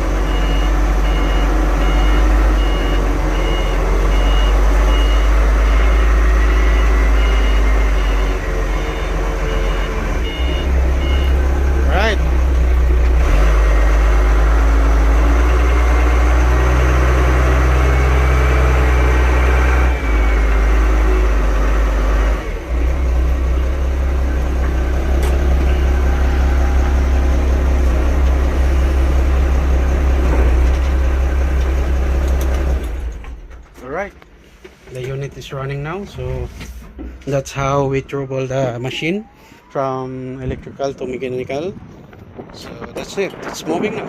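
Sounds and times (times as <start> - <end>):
forklift engine rumbling: 0.0 - 43.5.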